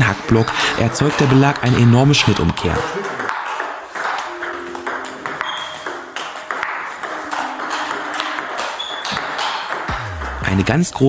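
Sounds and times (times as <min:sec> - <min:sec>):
ping pong ball hitting bats: 0:00.0 - 0:11.0
ball bouncing on table: 0:00.9 - 0:10.5.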